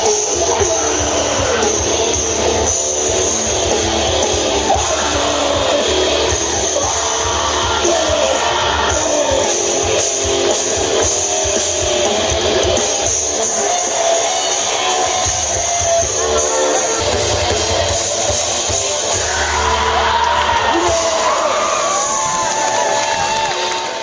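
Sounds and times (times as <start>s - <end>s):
loud live rock band: 0.0s - 24.0s.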